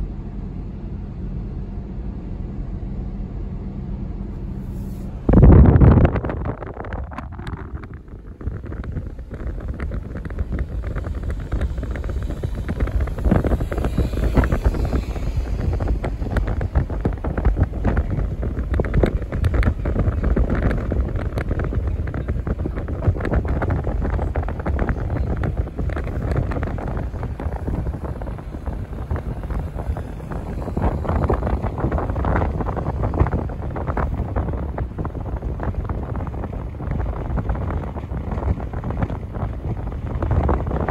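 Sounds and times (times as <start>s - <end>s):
car rumble on sand: 0.0s - 40.9s
wind buffeting microphone: 4.4s - 40.9s.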